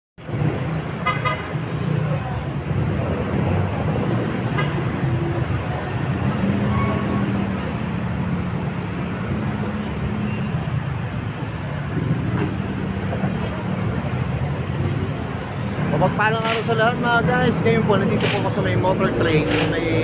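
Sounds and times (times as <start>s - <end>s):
traffic engines running: 0.2s - 20.0s.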